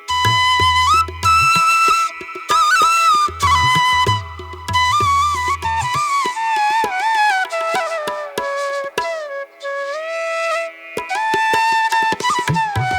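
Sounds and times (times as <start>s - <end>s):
flute melody: 0.0s - 12.9s.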